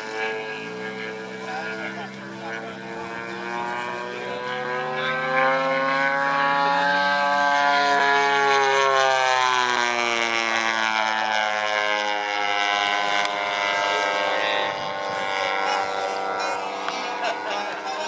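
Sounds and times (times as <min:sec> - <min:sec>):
model airplane engine in flight: 0:00.0 - 0:18.0.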